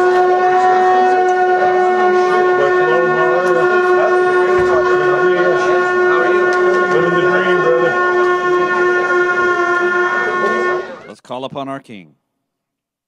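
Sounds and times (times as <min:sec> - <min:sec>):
ram's horn long blast: 0:00.0 - 0:11.1
voices: 0:00.0 - 0:12.0.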